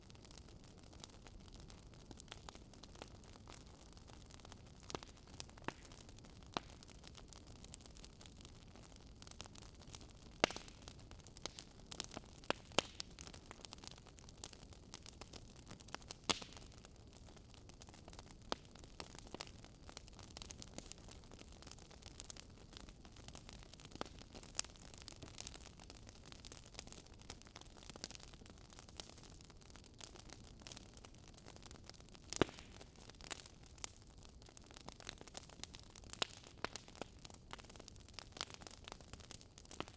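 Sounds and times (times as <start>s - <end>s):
burning wood crackling: 0.0s - 39.9s
low steady fire hiss: 0.0s - 39.9s.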